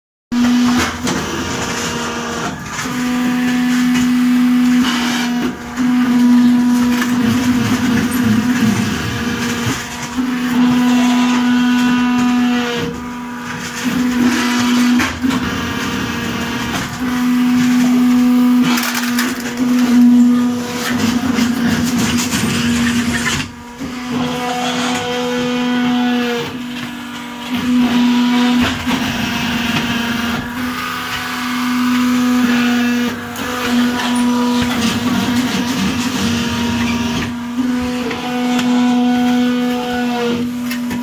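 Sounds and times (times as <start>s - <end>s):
brick press machine hum: 0.3s - 41.0s.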